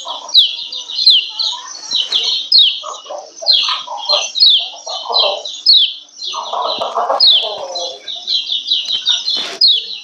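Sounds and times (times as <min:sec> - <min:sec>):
lower bird chattering: 0:00.0 - 0:10.0.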